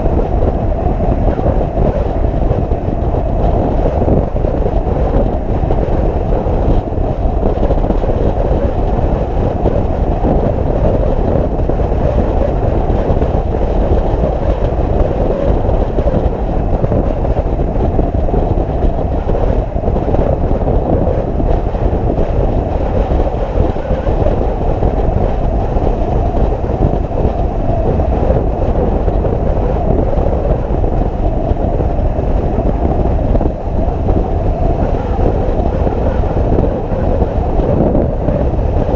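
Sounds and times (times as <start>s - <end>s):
motorcycle engine and wind: 0.0s - 38.9s.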